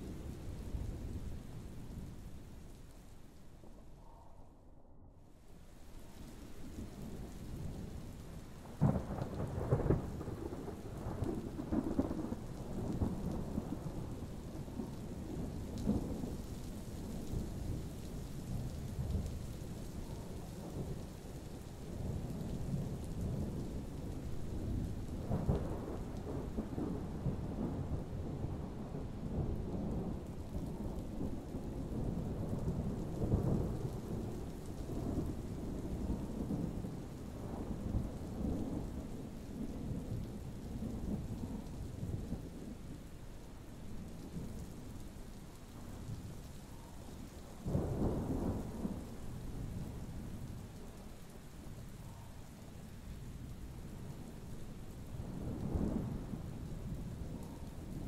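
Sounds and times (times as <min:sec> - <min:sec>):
steady rain: 0:00.0 - 0:04.2, 0:05.2 - 0:58.0
thunder rumbling: 0:06.4 - 0:58.0.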